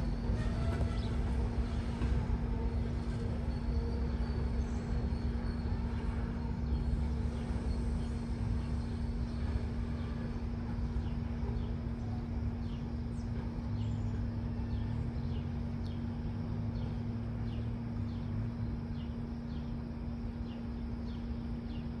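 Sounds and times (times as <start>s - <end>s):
steady low hum and rumble: 0.0s - 22.0s.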